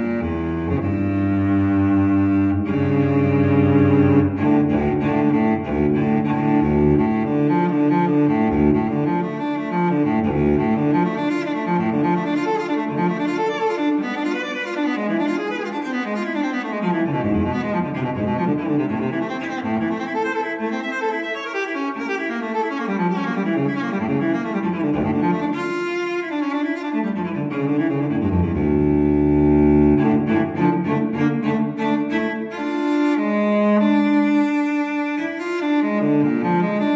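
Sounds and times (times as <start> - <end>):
slow sustained string music: 0.0 - 36.9.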